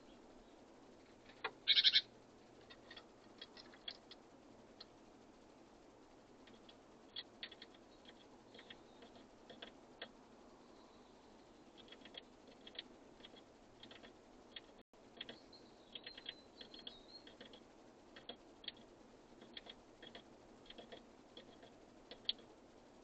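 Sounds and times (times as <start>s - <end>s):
birds pecking at seed: 1.0s - 5.0s, 6.4s - 10.2s, 11.6s - 22.5s.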